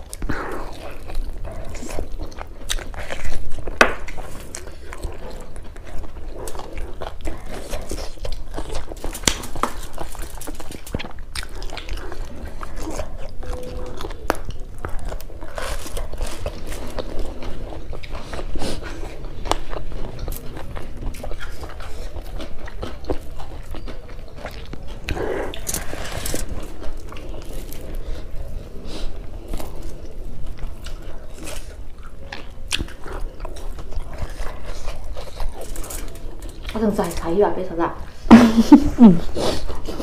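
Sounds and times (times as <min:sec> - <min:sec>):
people chewing and lip-smacking: 0:00.0 - 0:40.0.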